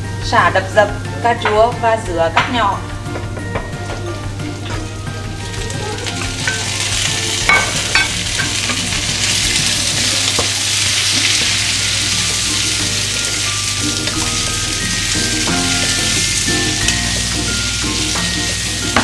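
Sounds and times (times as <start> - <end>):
food sizzling in hot oil: 0.9 - 19.0
wooden spatula stirring: 3.1 - 19.0.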